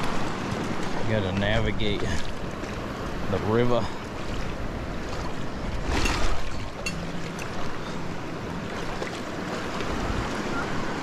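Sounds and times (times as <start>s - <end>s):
river water rushing over riffle: 0.0s - 11.0s.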